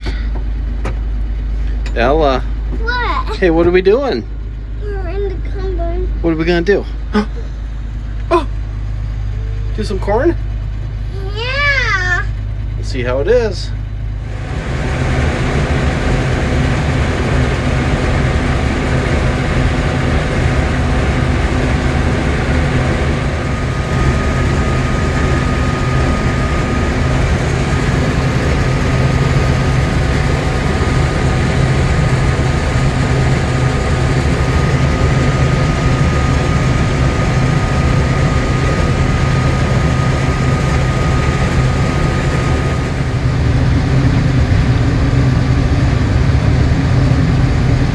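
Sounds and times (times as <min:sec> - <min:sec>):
combine harvester engine drone: 0:00.0 - 0:47.9
thin steady whine: 0:00.0 - 0:47.9.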